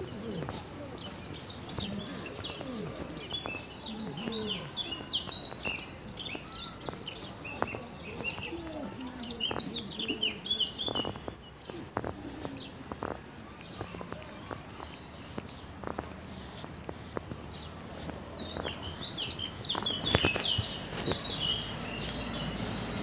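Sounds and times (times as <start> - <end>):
footsteps on gravel: 0.0 - 23.0
small birds chirping: 0.0 - 23.0.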